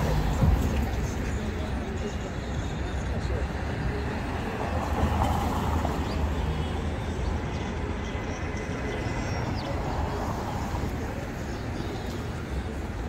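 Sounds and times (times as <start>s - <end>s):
faint indistinct voices: 0.0s - 13.0s
low traffic rumble: 0.0s - 13.0s.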